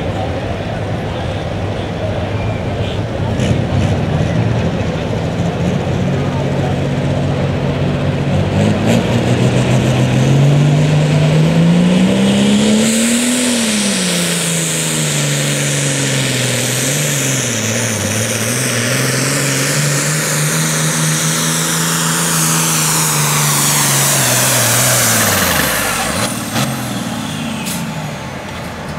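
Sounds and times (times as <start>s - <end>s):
diesel tractor engine at full load: 0.0s - 28.9s.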